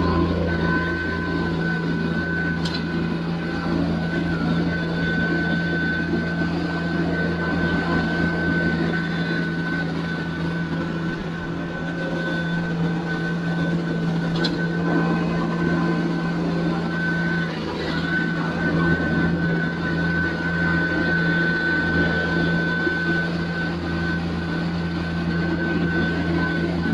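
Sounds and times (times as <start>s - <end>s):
high whine: 0.0s - 26.9s
tractor diesel engine running: 0.0s - 26.9s.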